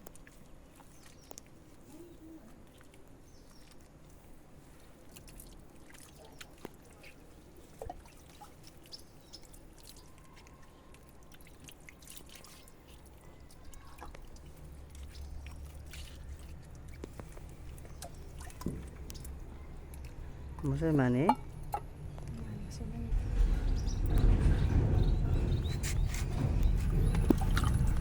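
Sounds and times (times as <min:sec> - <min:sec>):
water dripping and trickling: 0:00.0 - 0:28.0.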